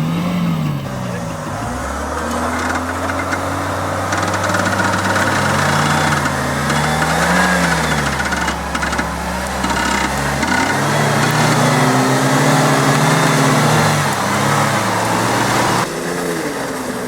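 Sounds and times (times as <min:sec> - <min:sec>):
engine crackling: 0:00.0 - 0:17.0
off-road vehicle engine revving: 0:00.0 - 0:17.0.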